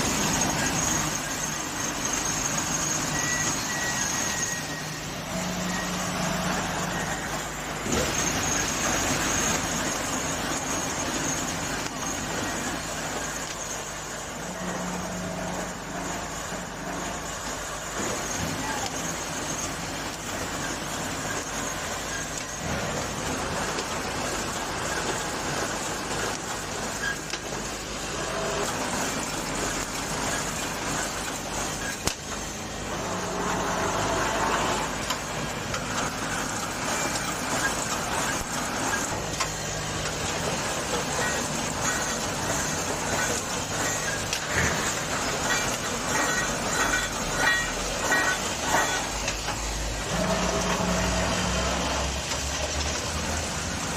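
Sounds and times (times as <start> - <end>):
welding machine running: 0.0 - 53.9.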